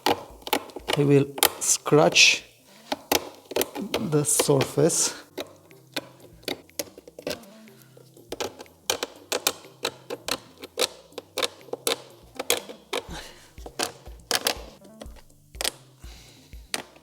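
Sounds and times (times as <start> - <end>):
tool scratching plastic panel: 0.0 - 15.8.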